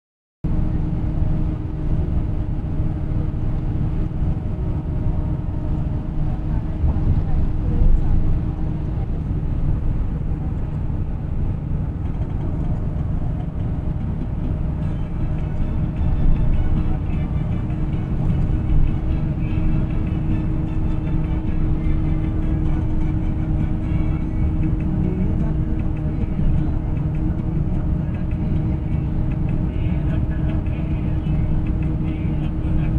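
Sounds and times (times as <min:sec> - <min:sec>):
bus rumble inside cabin: 0:00.4 - 0:32.9
faint engine hum: 0:00.4 - 0:32.9.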